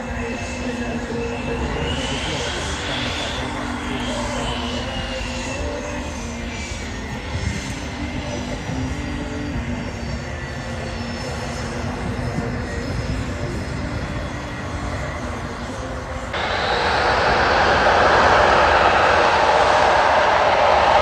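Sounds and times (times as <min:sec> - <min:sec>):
jet engine whine: 0:00.0 - 0:21.0.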